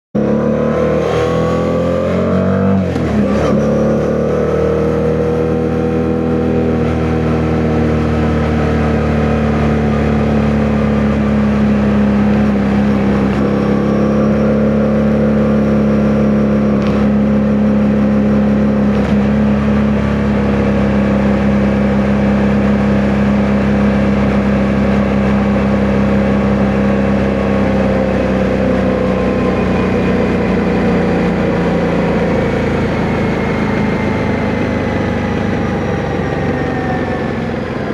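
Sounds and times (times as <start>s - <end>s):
motorcycle engine revving: 0.2s - 37.9s.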